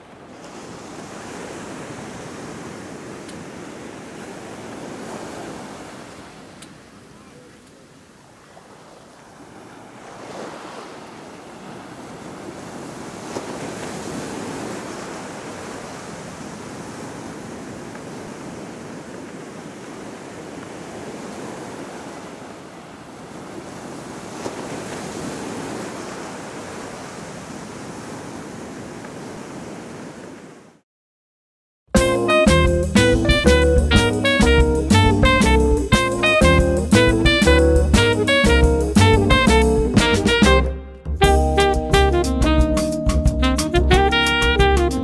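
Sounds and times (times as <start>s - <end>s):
ocean waves breaking: 0.0s - 30.8s, 32.0s - 42.6s.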